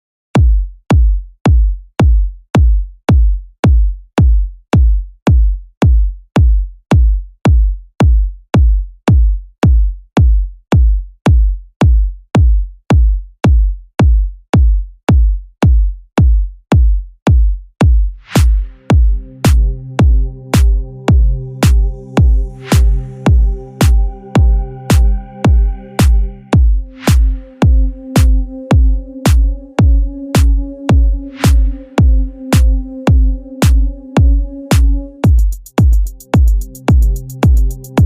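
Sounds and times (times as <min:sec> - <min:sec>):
electronic kick drum beat: 0:00.4 - 0:38.0.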